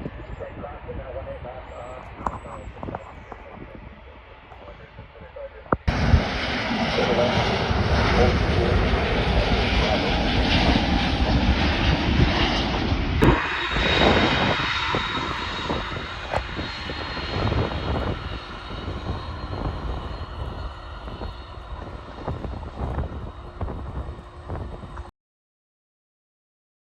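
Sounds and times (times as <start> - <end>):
airliner engine noise: 0.0 - 25.1.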